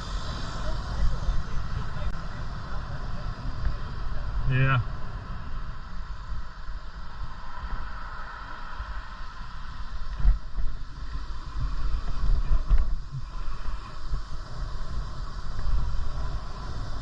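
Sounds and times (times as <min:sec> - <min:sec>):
bicycle riding hiss: 0:00.0 - 0:17.0
wind rumbling on microphone: 0:00.0 - 0:17.0.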